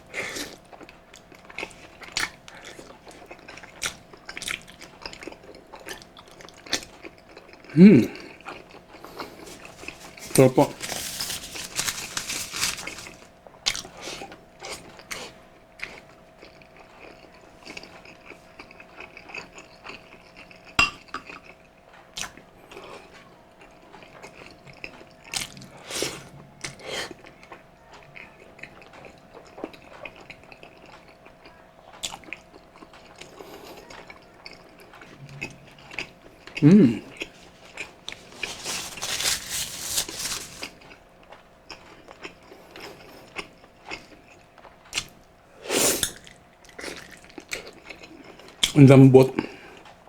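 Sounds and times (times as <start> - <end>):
chewing: 0.0 - 45.3, 46.0 - 48.8.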